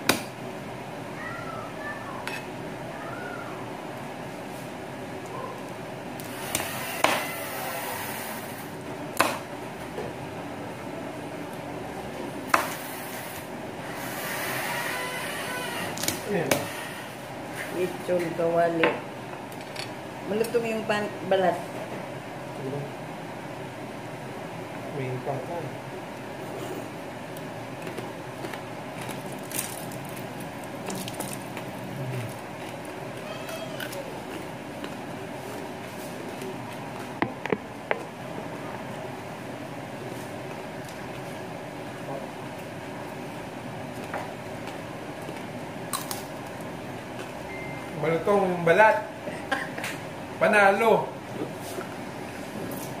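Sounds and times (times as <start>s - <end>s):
room noise: 0.0s - 53.0s
steady background hum: 0.0s - 53.0s.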